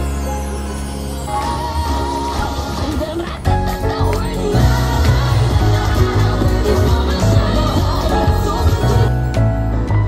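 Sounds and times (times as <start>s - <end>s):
music with held notes: 0.0s - 10.0s.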